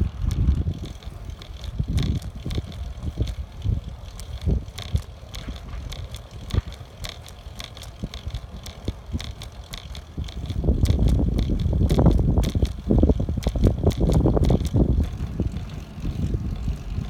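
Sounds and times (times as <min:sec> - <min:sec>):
bicycle rattles and clicks: 0:00.0 - 0:17.0
wind rumble on microphone: 0:00.0 - 0:17.0.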